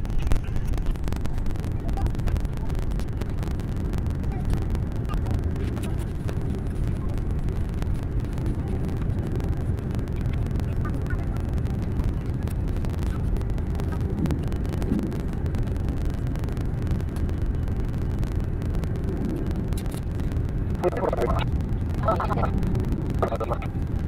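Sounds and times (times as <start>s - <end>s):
aircraft cabin rumble: 0.0s - 24.0s
faint clicks: 0.1s - 23.9s.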